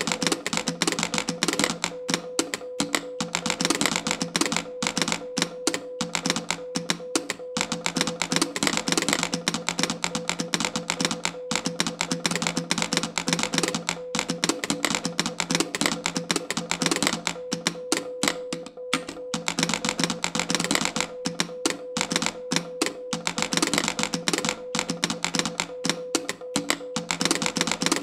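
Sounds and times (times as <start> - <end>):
telegraph keys clicking: 0.0 - 28.0.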